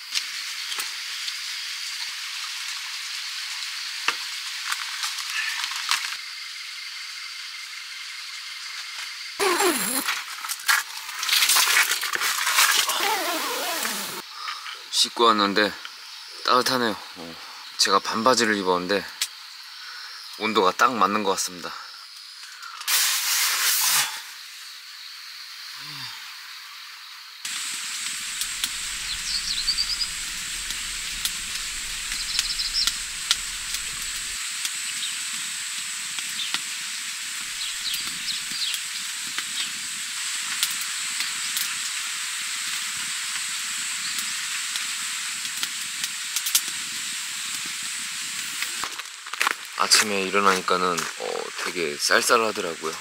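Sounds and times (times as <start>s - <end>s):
outdoor hiss: 0.0s - 53.0s.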